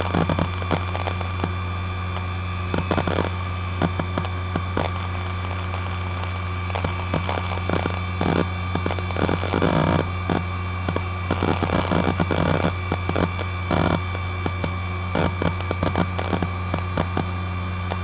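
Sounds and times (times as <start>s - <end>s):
hard drive heads clicking: 0.0s - 1.6s, 2.7s - 17.3s
hard drive humming: 0.0s - 18.0s.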